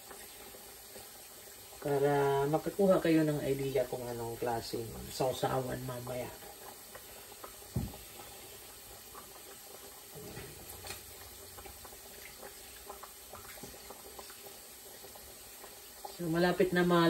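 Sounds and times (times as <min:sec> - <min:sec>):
juice dripping into a bowl: 0:00.0 - 0:17.0
pork sizzling in oil: 0:00.0 - 0:17.0.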